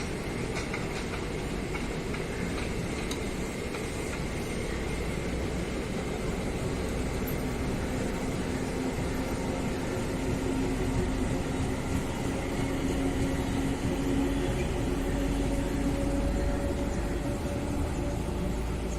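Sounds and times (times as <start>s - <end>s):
passenger train droning: 0.0s - 18.9s.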